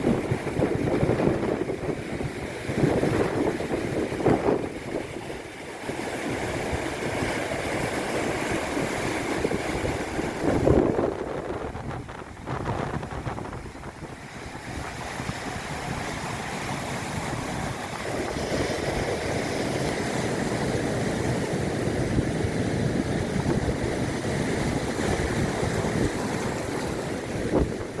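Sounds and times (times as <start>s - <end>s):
surf washing onto shore: 0.0s - 28.0s
wind buffeting microphone: 0.0s - 28.0s.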